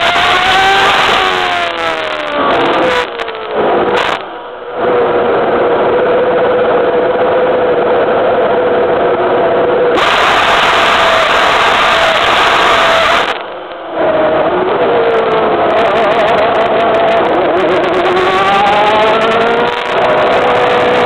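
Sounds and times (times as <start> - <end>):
racing car engine: 0.0 - 21.0.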